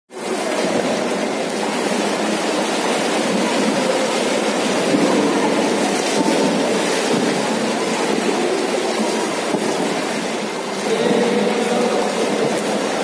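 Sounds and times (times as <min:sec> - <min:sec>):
pool water splashing: 0:00.1 - 0:13.0.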